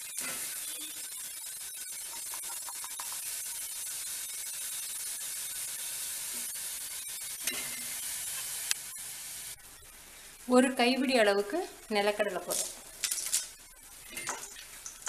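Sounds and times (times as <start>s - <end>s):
syrup sizzling in hot ghee: 0.0s - 15.0s.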